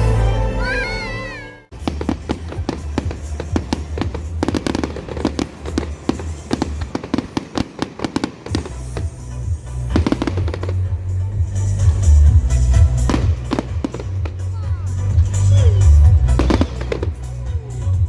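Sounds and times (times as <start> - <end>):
music playing: 0.0 - 18.0
fireworks crackling and banging: 1.7 - 18.0.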